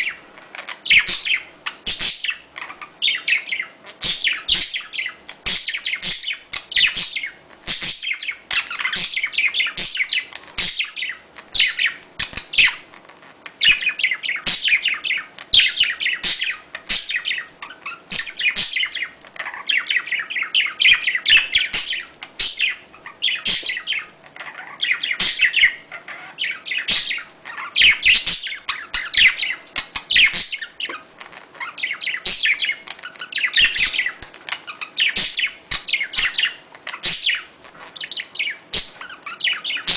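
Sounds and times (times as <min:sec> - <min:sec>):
budgerigars chattering and warbling: 0:00.0 - 0:12.9, 0:13.6 - 0:39.9.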